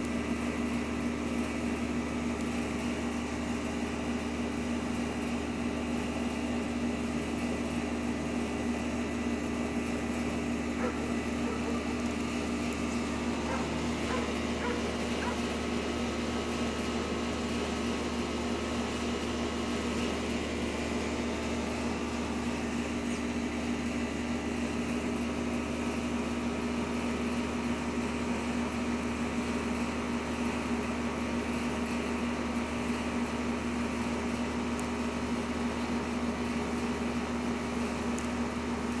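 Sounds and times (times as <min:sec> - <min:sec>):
machine hum: 0:00.0 - 0:39.0.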